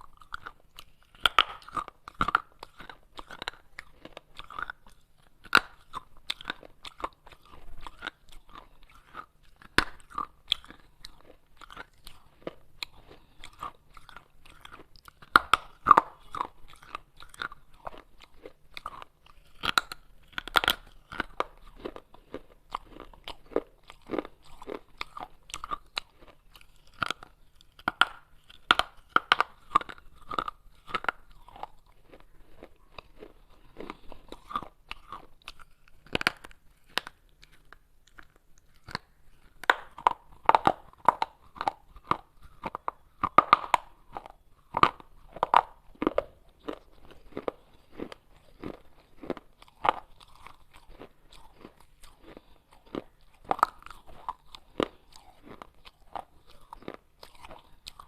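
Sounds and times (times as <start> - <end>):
clay pieces being chewed: 0.0 - 58.0.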